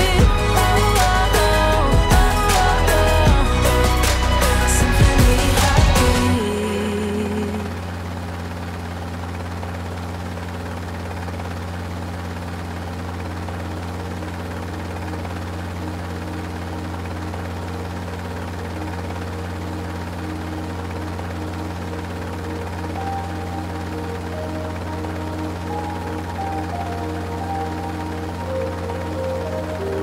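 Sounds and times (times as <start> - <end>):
rotor aircraft drone: 0.0 - 30.0.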